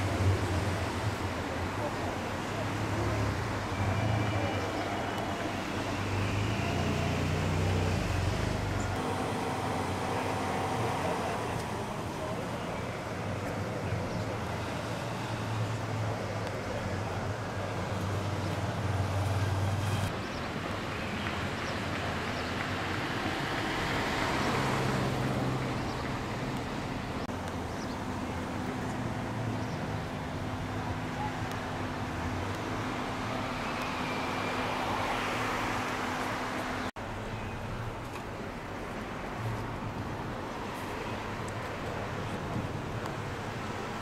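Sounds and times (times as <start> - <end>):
traffic rumble with engine hum: 0.0 - 44.0.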